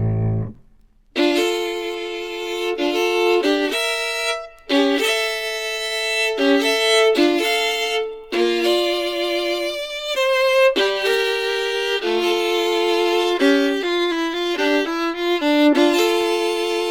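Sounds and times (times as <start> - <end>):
violin music from vinyl record: 0.0 - 16.9.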